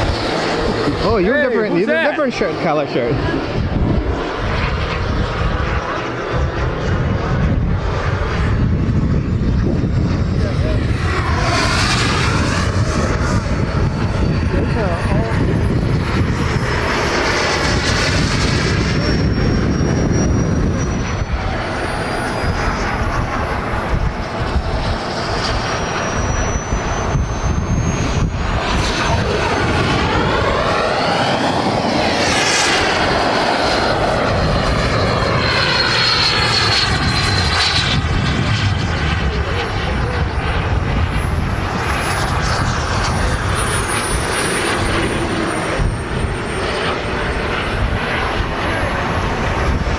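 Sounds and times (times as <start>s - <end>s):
model jet turbine whine: 0.0s - 49.9s.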